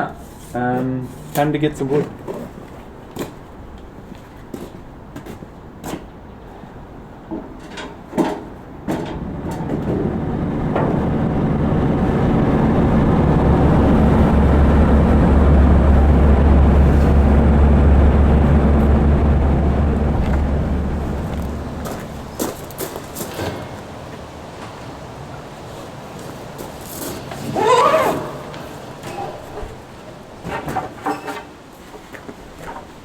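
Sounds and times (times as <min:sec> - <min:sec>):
heavy vehicle engine rumble: 0:00.0 - 0:31.7.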